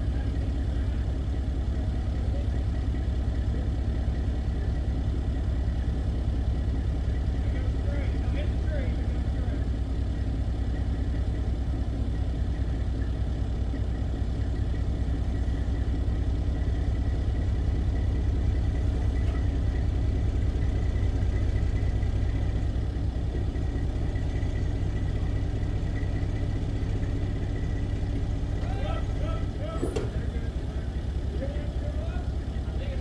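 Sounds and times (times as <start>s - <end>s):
heavy vehicle engine rumbling: 0.0s - 33.0s.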